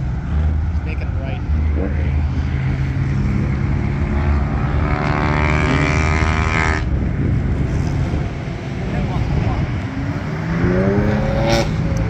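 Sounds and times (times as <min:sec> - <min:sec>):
car engine rumbling and accelerating: 0:00.0 - 0:12.0.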